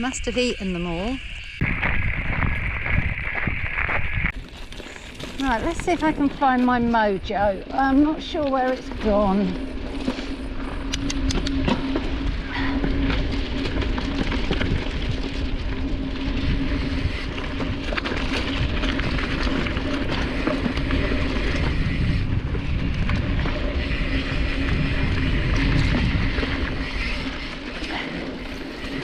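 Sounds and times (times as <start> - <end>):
bike tyres on dirt: 0.0 - 29.0
wind rumble on microphone: 0.0 - 29.0
bike rattles and clicks: 1.6 - 29.0.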